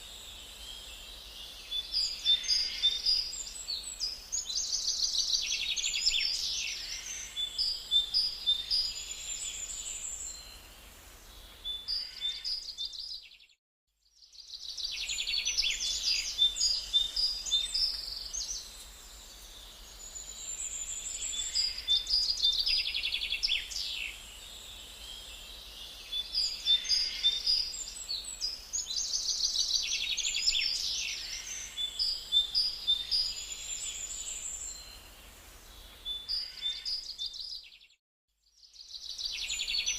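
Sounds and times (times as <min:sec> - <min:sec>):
small birds chirping: 0:00.0 - 0:13.6, 0:14.2 - 0:39.9.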